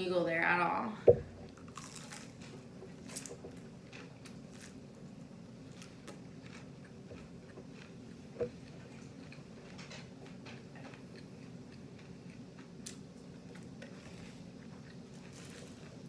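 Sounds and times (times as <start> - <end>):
steady low hum: 0.0 - 16.0
chewing crunchy fried chicken: 1.5 - 16.0.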